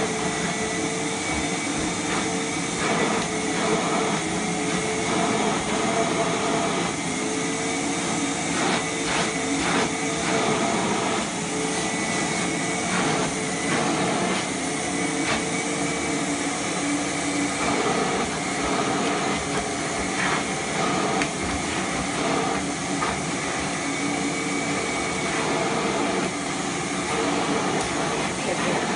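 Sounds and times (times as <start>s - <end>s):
vacuum cleaner running: 0.0s - 28.9s.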